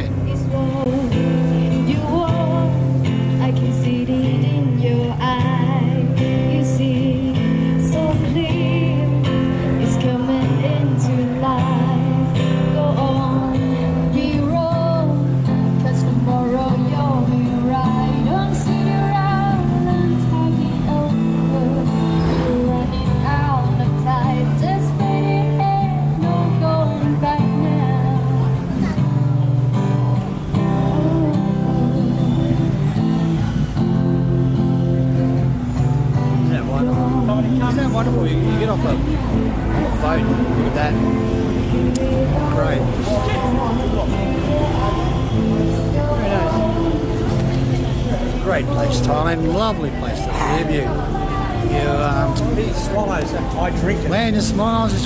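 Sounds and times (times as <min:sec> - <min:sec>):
acoustic guitar chords: 0:00.0 - 0:55.0
woman singing: 0:00.1 - 0:29.1, 0:30.6 - 0:33.4, 0:36.6 - 0:39.2, 0:39.8 - 0:48.8, 0:50.2 - 0:53.0.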